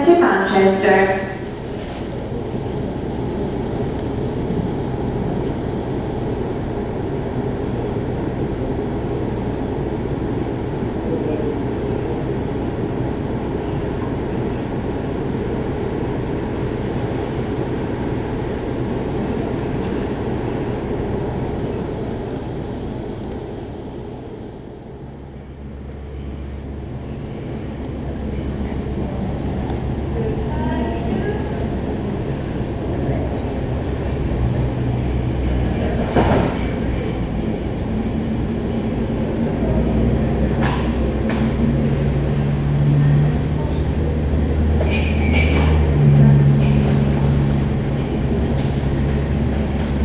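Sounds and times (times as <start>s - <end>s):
muffled aircraft engines rumbling: 0.0s - 50.0s.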